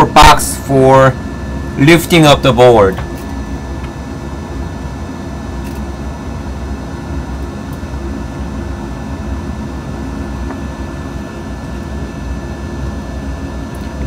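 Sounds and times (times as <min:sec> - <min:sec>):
low machine hum and rumble: 0:00.0 - 0:14.0.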